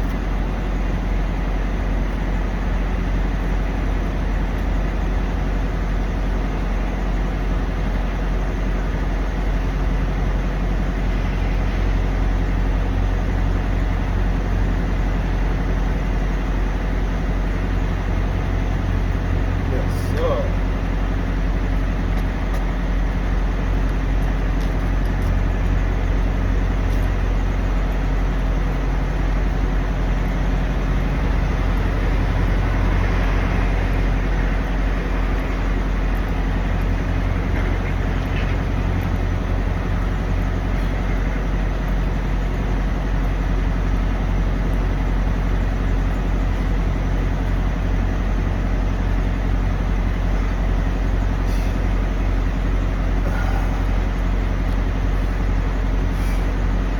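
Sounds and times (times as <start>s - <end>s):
diesel truck engines idling: 0.0s - 56.9s.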